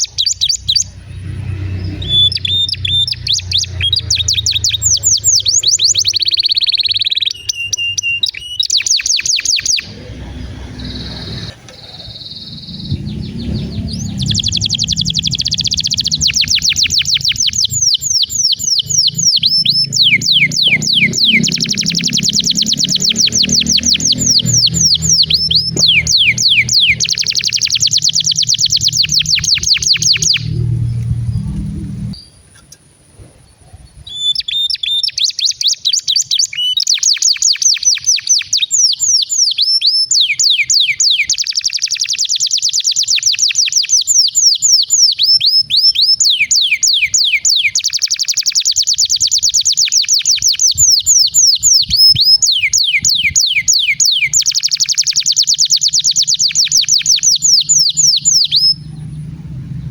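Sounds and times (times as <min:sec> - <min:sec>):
canary singing trills: 0:00.0 - 0:32.4, 0:34.0 - 0:59.9.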